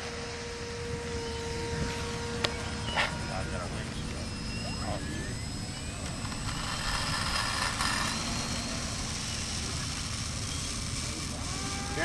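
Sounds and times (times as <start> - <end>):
model plane motor buzzing: 0.0 - 12.0.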